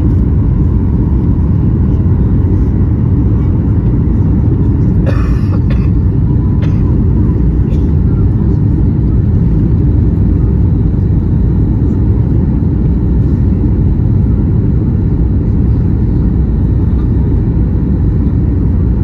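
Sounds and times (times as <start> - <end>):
airplane cabin low rumble: 0.0 - 19.0.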